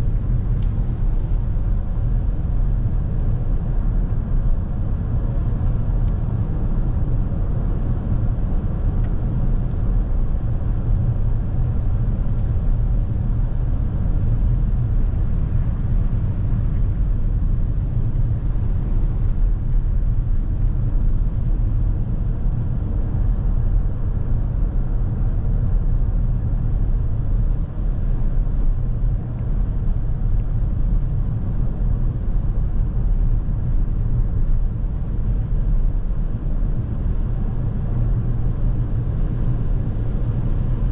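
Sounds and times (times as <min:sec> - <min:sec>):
road and tyre noise: 0:00.0 - 0:40.9.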